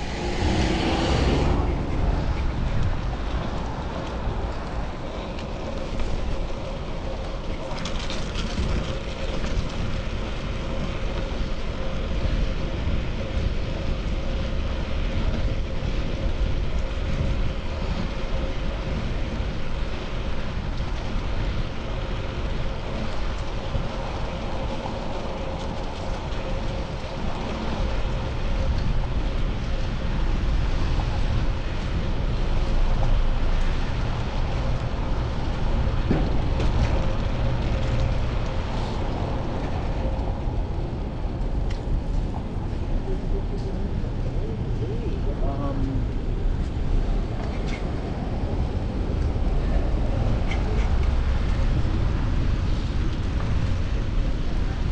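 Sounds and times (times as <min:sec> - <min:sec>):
road and traffic noise: 0:00.0 - 0:54.9
wind on microphone: 0:00.0 - 0:54.9.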